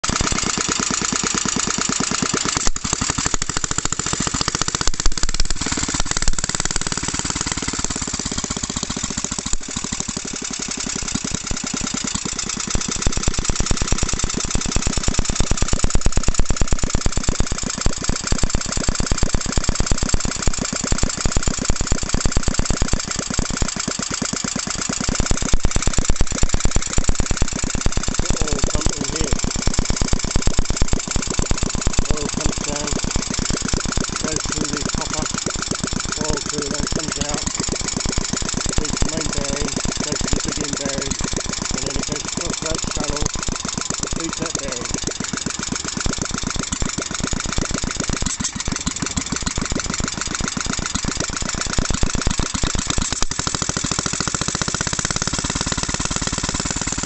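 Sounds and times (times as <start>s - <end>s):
stationary engine running: 0.0s - 57.0s.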